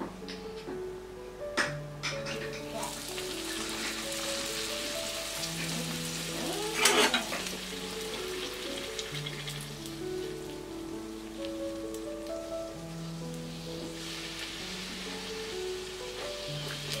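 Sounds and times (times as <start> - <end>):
dough sizzling in hot oil: 2.0 - 17.0
oil crackling: 2.3 - 17.0.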